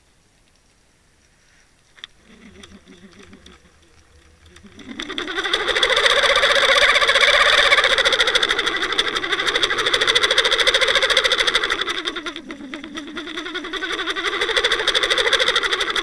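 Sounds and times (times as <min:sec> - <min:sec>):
watercraft engine underwater: 0:02.0 - 0:16.0.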